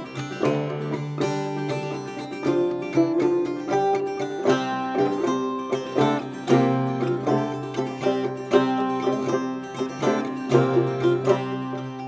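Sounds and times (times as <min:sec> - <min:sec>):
clawhammer banjo tune: 0:00.0 - 0:12.0.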